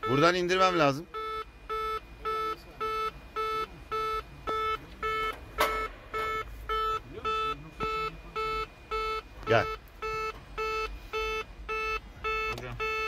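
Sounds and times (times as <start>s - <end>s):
warning horn beeping: 0.0s - 13.0s.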